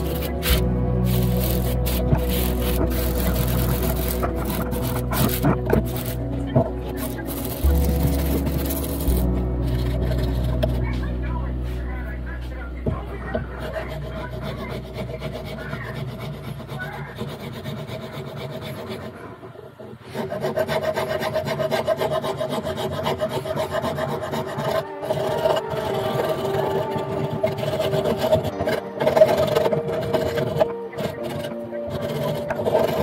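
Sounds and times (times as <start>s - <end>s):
hand file rasping: 0.0s - 11.1s, 12.8s - 33.0s.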